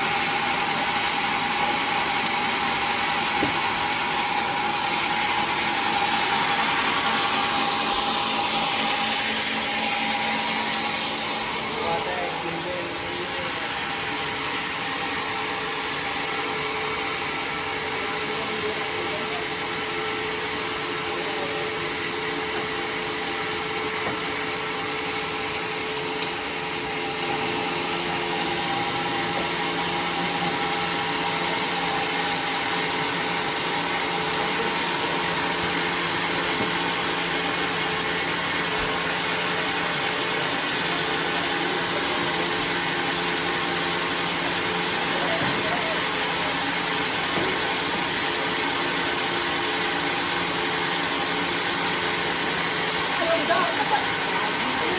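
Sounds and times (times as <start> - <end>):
sawmill machinery humming: 0.0 - 54.9.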